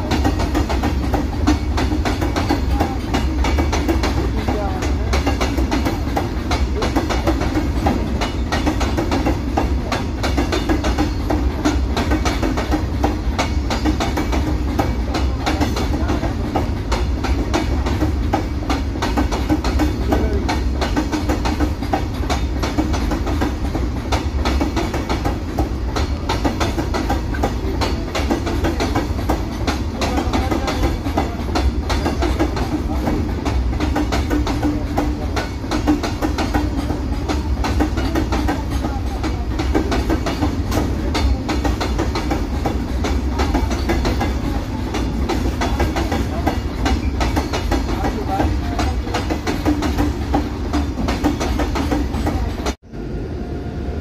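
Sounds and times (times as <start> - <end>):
train wheels clattering over rail joints: 0.0 - 52.8
low rumble of train: 0.0 - 54.0.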